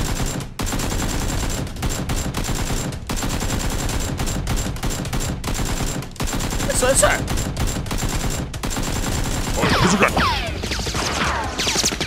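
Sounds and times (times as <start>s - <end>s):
rapid automatic gunfire: 0.0s - 12.0s.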